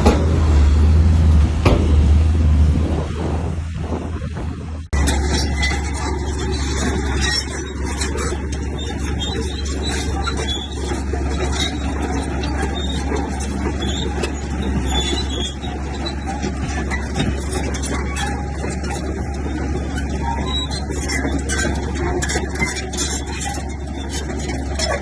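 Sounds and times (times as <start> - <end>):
bulldozer diesel engine rumbling: 0.0 - 25.0
high-pitched squeaks: 5.0 - 25.0.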